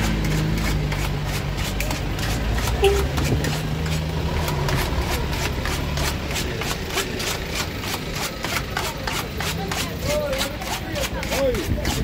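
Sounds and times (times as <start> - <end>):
low engine hum: 0.0 - 10.6
knife chopping in metal bowl: 0.0 - 12.0.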